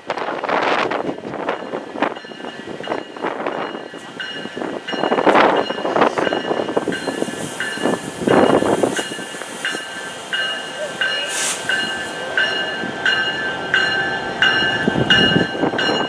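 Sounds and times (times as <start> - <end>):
diesel train approaching: 0.0 - 16.0
bell ringing: 2.2 - 16.0.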